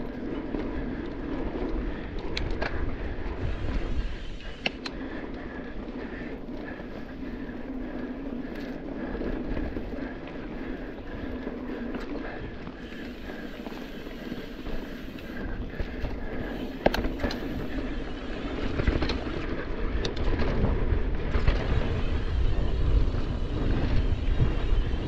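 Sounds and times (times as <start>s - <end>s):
bike tyres rumbling on dirt: 0.0s - 25.0s
wind buffeting microphone: 0.0s - 25.0s.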